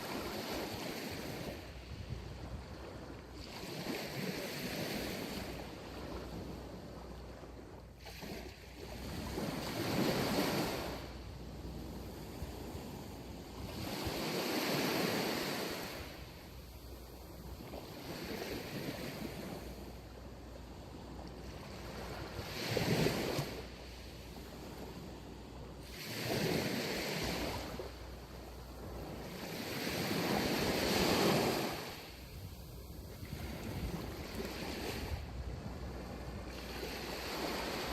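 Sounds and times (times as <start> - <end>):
waves breaking on beach: 0.0 - 37.9.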